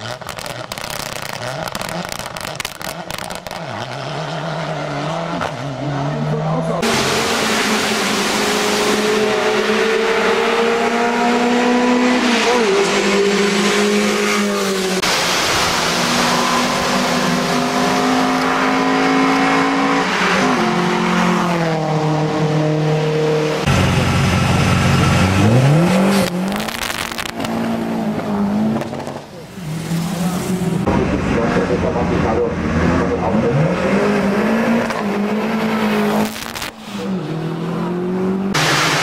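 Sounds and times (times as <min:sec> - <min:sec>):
race car engines at high revs: 0:00.0 - 0:39.0.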